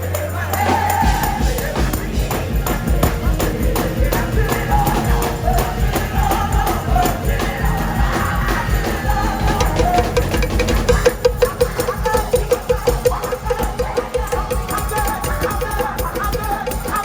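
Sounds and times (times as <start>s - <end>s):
gospel choir singing with band: 0.0s - 17.0s
tambourine strokes: 0.0s - 17.0s.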